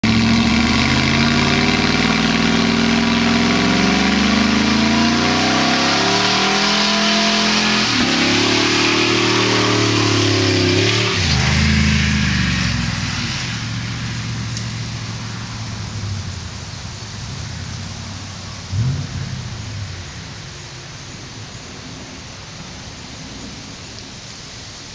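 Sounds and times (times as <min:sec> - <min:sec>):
engine revving hard: 0:00.0 - 0:20.6.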